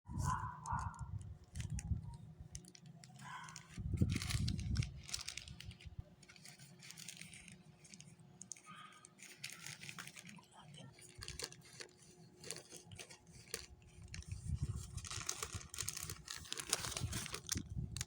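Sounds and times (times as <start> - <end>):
packaging rustling and clicking: 0.2 - 18.0.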